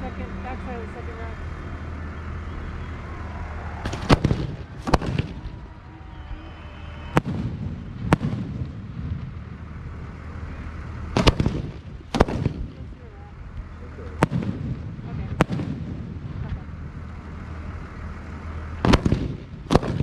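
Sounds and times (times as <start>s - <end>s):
rolling low rumble: 0.0s - 20.0s
steady low hum: 0.0s - 20.0s
fireworks bursting: 0.6s - 20.0s.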